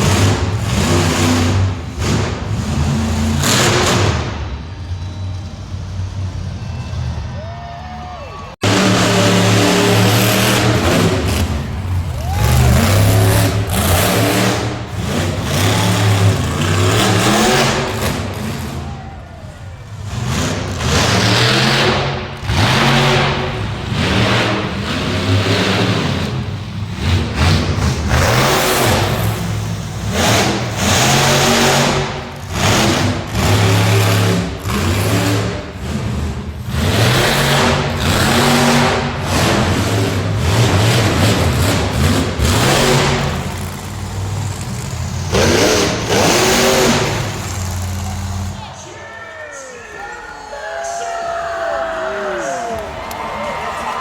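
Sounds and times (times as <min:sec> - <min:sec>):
truck engine revving hard: 0:00.0 - 0:07.4, 0:08.5 - 0:48.8.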